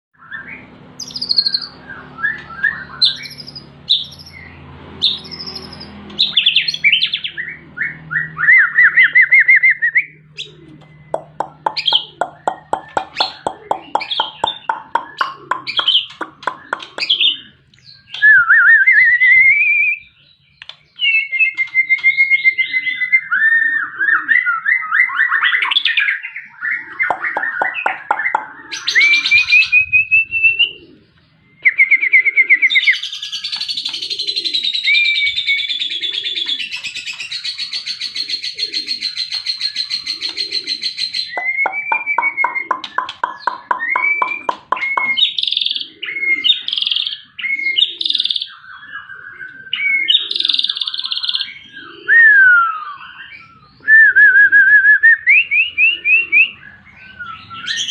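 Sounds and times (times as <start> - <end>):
bird singing trills and whistles: 0.2 - 57.9.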